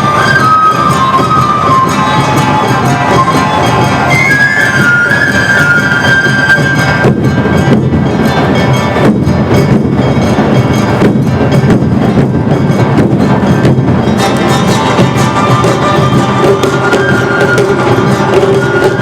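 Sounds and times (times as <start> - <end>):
high melody line: 0.0 - 19.0
taiko drums: 0.0 - 19.0.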